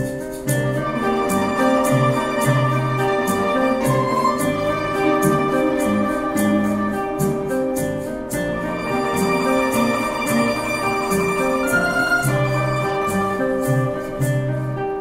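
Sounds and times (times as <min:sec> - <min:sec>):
mandolin ensemble playing: 0:00.0 - 0:15.0.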